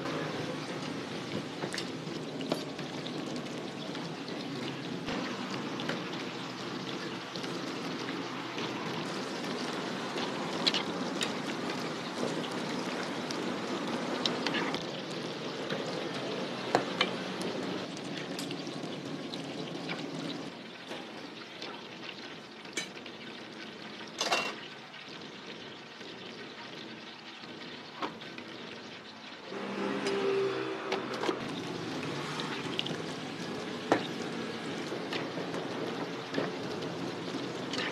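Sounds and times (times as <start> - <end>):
eggs sizzling in hot oil: 0.0 - 37.9.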